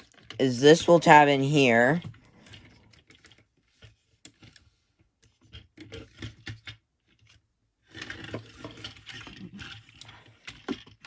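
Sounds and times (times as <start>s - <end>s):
plastic parts clicking and scraping: 0.0s - 1.0s, 2.0s - 11.0s.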